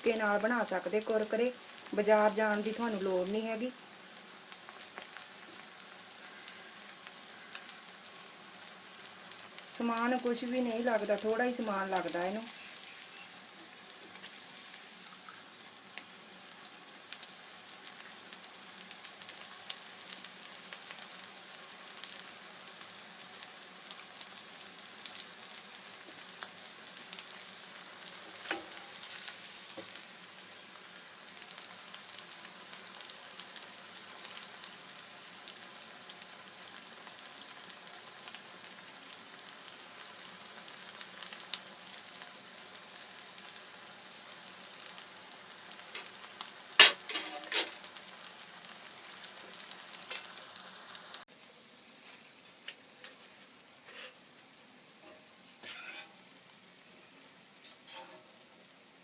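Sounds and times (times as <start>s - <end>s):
food sizzling in hot oil: 0.0s - 59.0s
oil crackling and popping: 0.1s - 51.4s.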